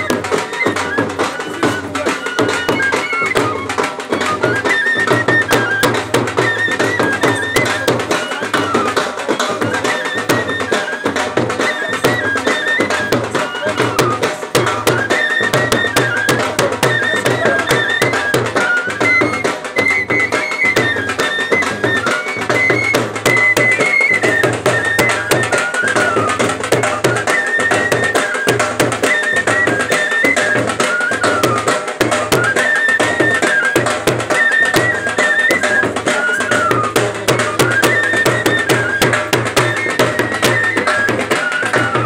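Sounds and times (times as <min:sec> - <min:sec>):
double-headed drum beating: 0:00.0 - 0:42.0
high melody: 0:00.0 - 0:42.0.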